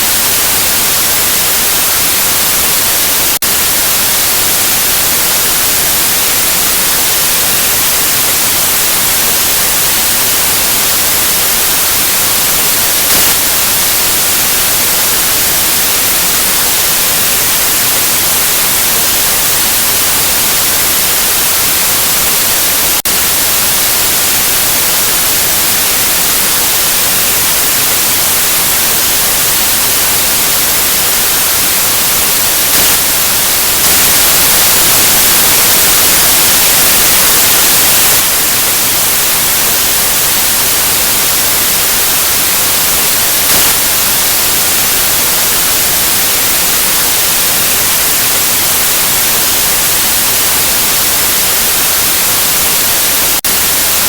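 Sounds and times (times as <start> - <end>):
loud white noise hiss: 0.0 - 54.0.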